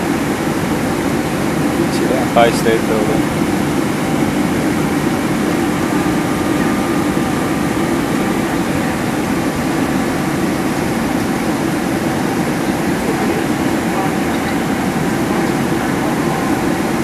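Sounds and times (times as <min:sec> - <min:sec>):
airplane cabin engine hum: 0:00.0 - 0:17.0
faint whine: 0:00.0 - 0:17.0.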